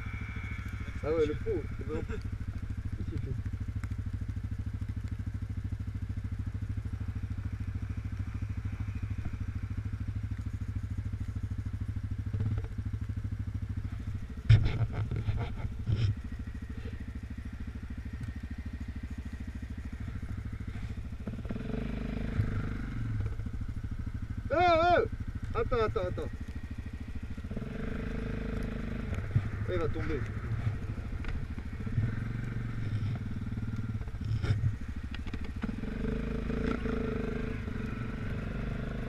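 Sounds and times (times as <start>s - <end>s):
quad engine running: 0.0s - 39.0s.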